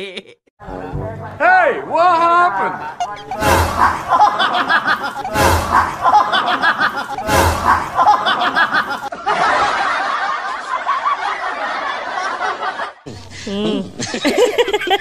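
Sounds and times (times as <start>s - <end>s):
people laughing and exclaiming: 2.6s - 15.0s.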